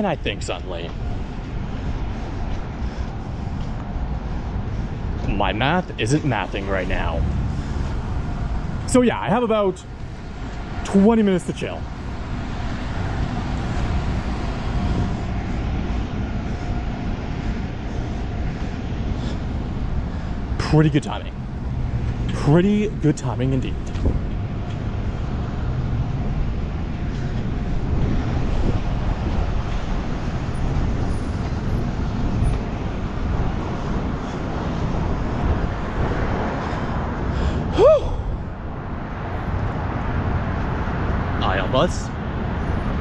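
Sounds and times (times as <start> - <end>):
bus engine running: 0.0 - 42.9.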